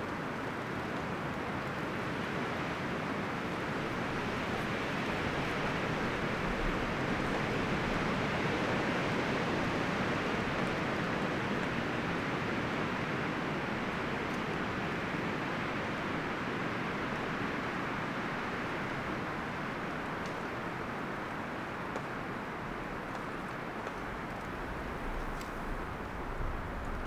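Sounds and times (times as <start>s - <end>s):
wind rustling forest trees: 0.0s - 27.0s.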